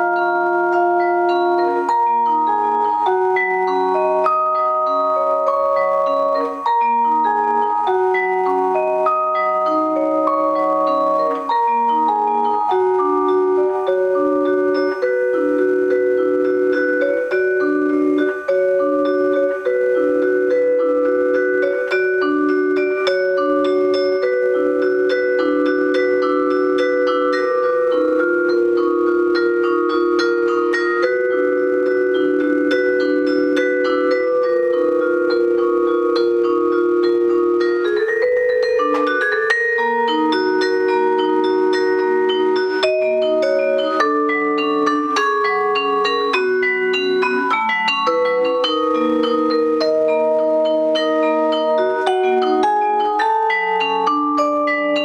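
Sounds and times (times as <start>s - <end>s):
vibraphone melody: 0.0s - 55.0s.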